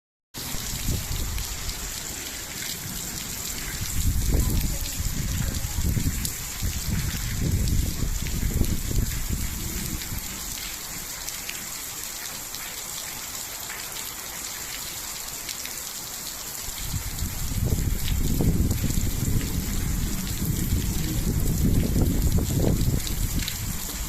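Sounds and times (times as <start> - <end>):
rain falling: 0.4 - 24.0.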